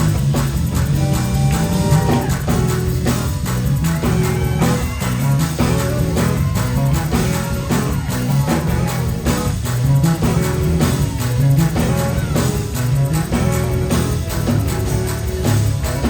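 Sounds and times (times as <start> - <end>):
church band playing fast music: 0.0 - 16.0.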